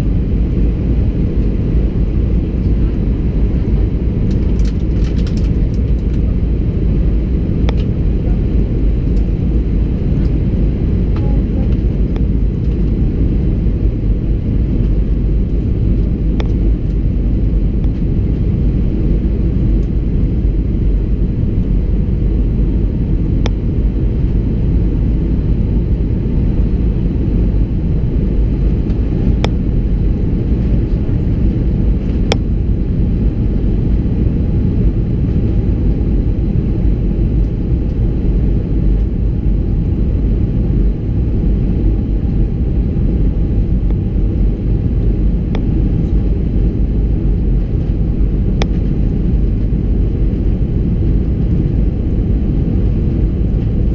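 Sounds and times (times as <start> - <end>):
aircraft cabin rumble: 0.0 - 53.9.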